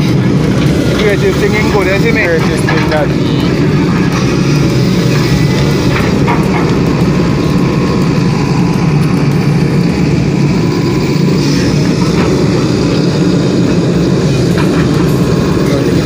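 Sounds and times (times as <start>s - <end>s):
excavator diesel engine hum: 0.0s - 16.0s.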